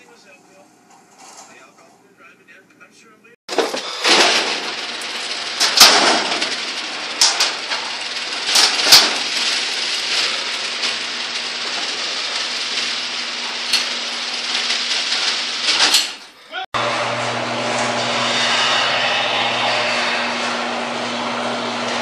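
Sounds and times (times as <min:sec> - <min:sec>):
garage door clanking: 0:03.5 - 0:22.0
garage door opener running: 0:03.5 - 0:22.0.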